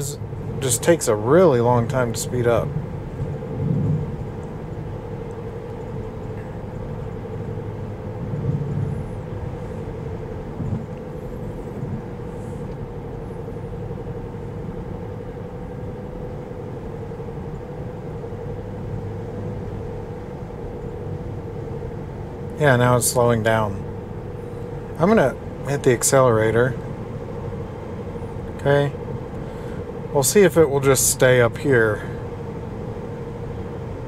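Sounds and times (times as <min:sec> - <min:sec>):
road and tyre noise: 0:00.0 - 0:34.0
steady hum: 0:00.0 - 0:34.0.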